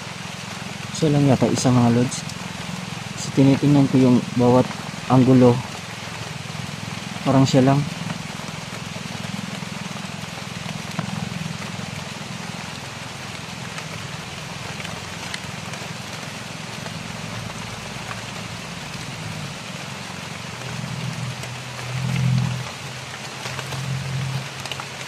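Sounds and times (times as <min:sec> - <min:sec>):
rain falling on foliage: 0:00.0 - 0:25.0.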